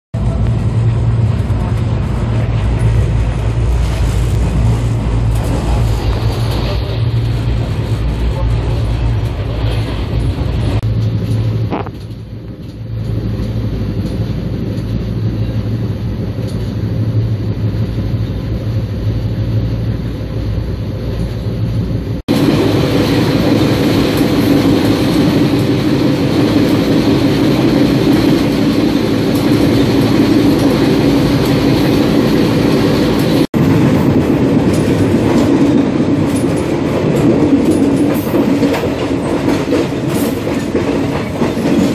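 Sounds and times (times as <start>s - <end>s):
train wheels rumbling on rail: 0.1s - 41.9s.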